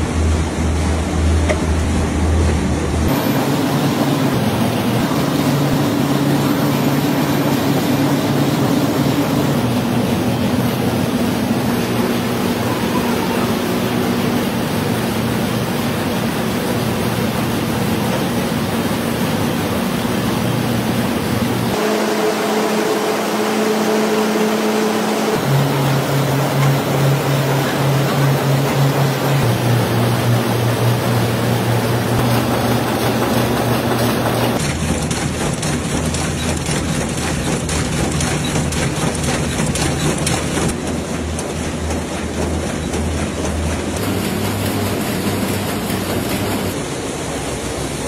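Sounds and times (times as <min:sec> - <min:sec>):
factory machinery running: 0:00.0 - 0:48.0.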